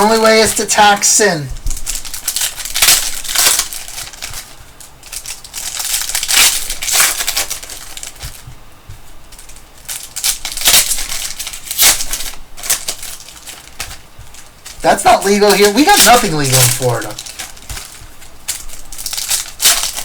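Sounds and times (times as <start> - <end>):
card pack wrappers crinkling and tearing: 0.0 - 8.5, 9.3 - 20.0.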